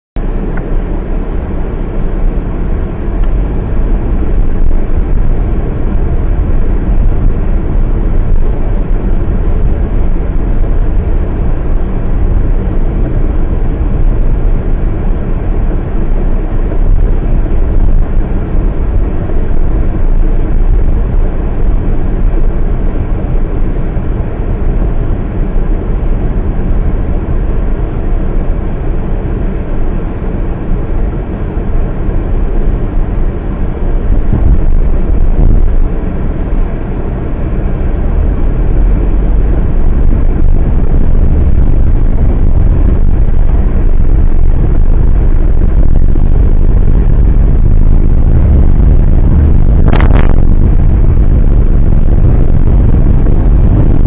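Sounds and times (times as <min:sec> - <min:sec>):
car engine and tyres rumbling: 0:00.2 - 0:54.0.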